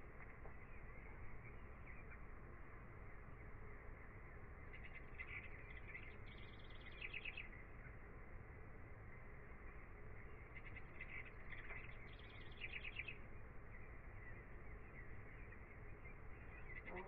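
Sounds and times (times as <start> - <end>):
bird chirping: 0.0 - 17.0
steady low hiss: 0.0 - 17.0.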